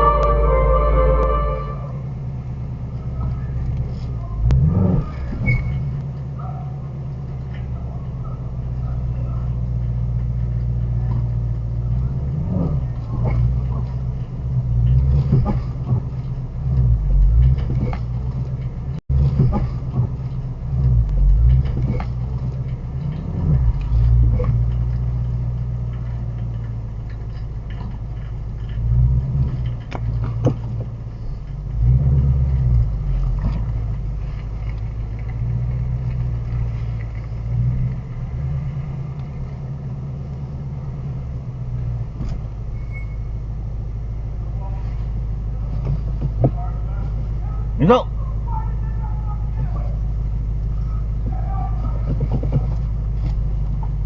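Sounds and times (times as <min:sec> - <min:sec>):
car engine rumbling: 0:00.0 - 0:54.0.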